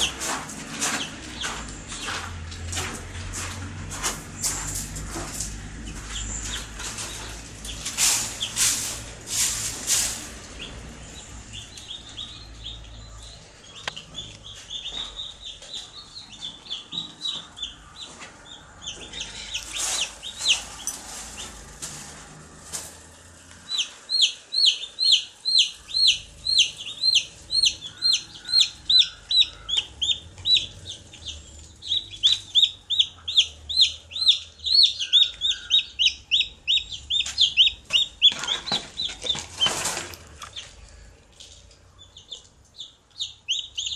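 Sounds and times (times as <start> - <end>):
baby chicks peeping: 0.0 - 43.9.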